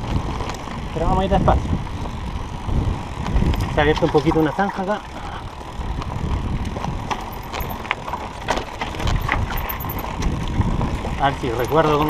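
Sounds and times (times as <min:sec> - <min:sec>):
bike rattling over bumps: 0:00.0 - 0:12.0
steady low rumble: 0:00.0 - 0:12.0
tyres crunching over dirt and stones: 0:01.8 - 0:12.0.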